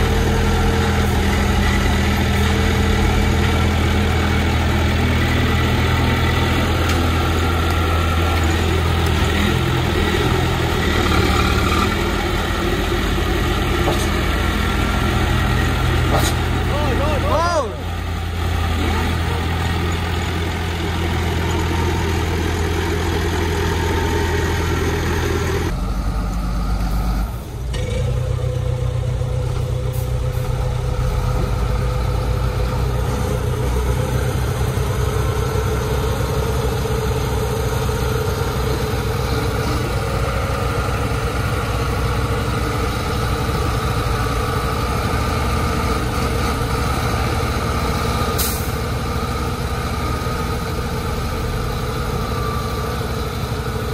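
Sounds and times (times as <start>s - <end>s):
bulldozer diesel engine: 0.0s - 53.9s
dump truck diesel engine: 0.0s - 53.9s.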